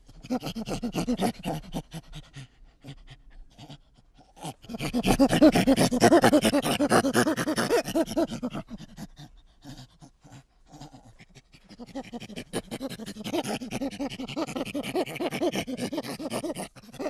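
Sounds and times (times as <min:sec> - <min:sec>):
animal calling in rapid pulses: 0:00.0 - 0:17.0.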